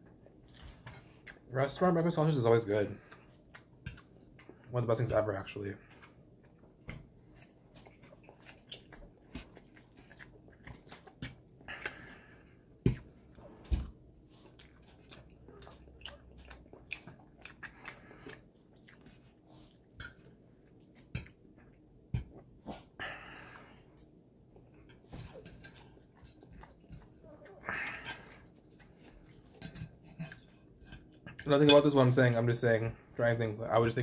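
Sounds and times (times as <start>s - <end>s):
person chewing food: 0.0s - 1.5s, 2.6s - 32.0s.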